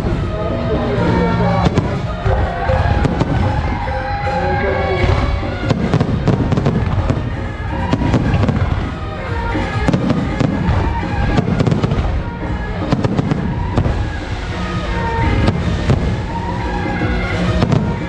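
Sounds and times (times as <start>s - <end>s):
electronic firecracker crackling: 0.0s - 18.0s
loud music: 0.0s - 18.0s.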